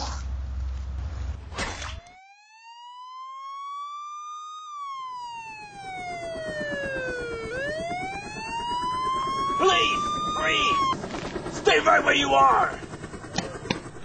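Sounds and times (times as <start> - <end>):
siren wailing: 1.4 - 12.9.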